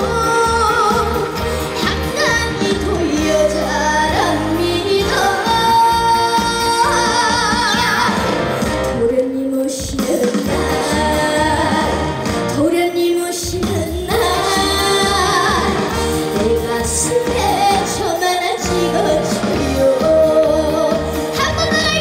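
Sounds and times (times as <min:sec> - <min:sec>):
girl singing with vibrato: 0:00.0 - 0:08.2, 0:09.0 - 0:22.0
backing music: 0:00.0 - 0:22.0.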